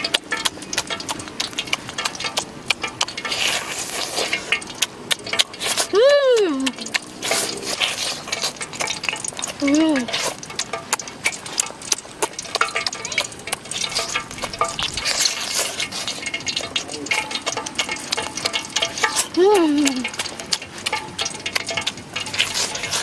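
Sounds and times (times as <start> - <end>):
chewing and crunching chicken: 0.0 - 23.0
mouth clicks: 0.0 - 23.0.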